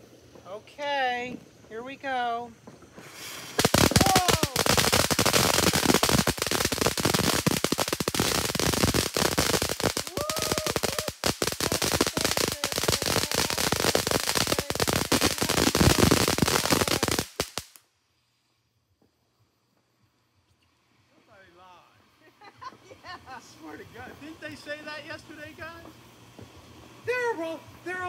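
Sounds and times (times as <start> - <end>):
ground firework crackling pops: 0.0 - 18.2, 18.8 - 20.6, 21.9 - 28.0.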